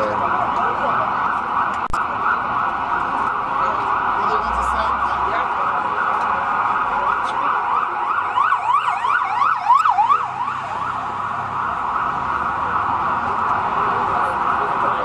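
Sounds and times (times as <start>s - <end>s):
emergency siren yelping: 0.0s - 15.0s
street noise: 0.0s - 15.0s.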